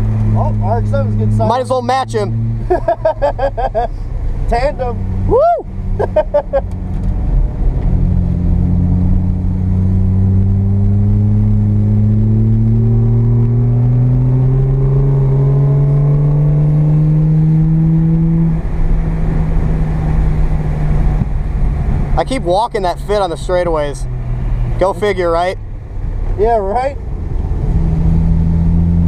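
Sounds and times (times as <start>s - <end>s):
rotary engine accelerating: 0.0s - 29.0s.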